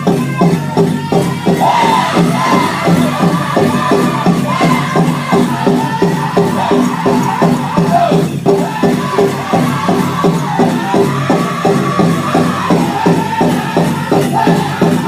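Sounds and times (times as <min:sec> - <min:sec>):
big drum beating: 0:00.0 - 0:15.0
group singing: 0:00.1 - 0:15.0.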